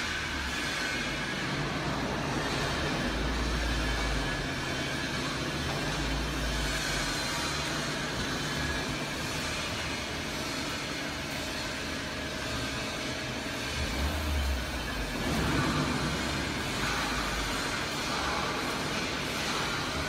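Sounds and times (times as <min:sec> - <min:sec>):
mechanical hum and hiss: 0:00.0 - 0:20.0.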